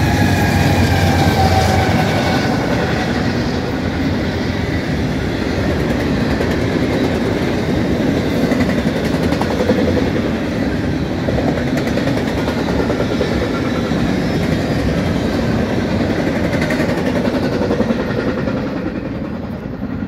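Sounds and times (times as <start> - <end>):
freight train wheels on rails: 0.0 - 20.0.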